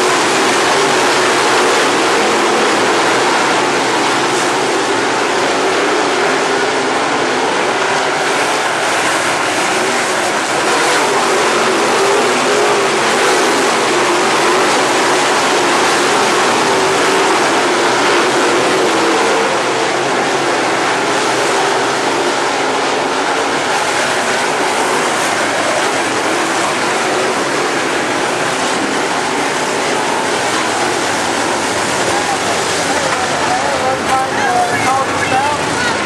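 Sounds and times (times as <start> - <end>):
race car engines racing past: 0.0 - 36.0.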